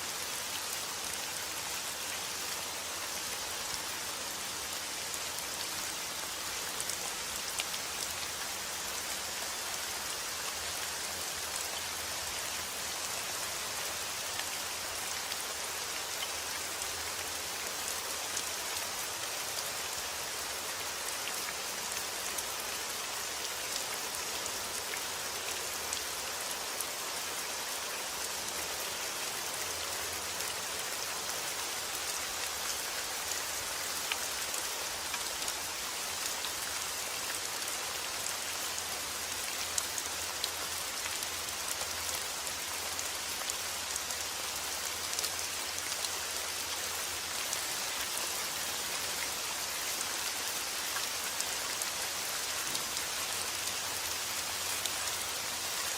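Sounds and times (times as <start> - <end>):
steady rain falling: 0.0 - 55.9
raindrops ticking on surfaces: 0.2 - 55.9.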